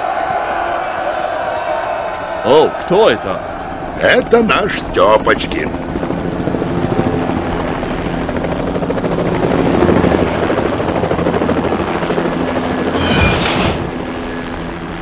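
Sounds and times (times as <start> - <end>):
helicopter engine drone: 0.0 - 15.0
helicopter rotor chop: 2.2 - 15.0.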